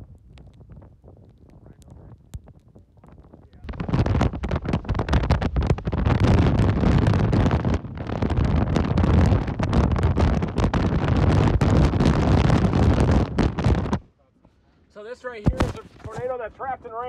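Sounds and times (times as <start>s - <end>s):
gusty wind buffeting microphone: 0.0s - 14.1s.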